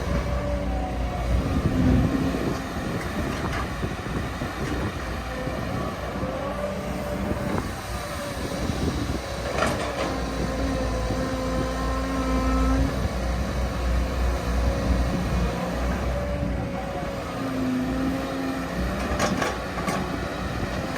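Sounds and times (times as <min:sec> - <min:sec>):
excavator diesel engine: 0:00.0 - 0:20.9
hydraulic whine: 0:00.0 - 0:20.9.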